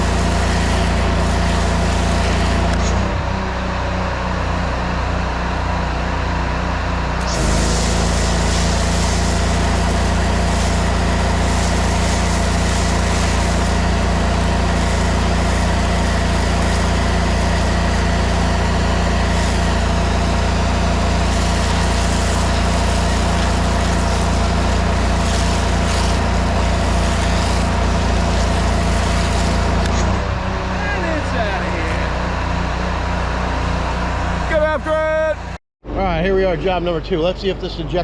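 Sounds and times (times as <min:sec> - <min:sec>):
engine running steadily: 0:00.0 - 0:35.6.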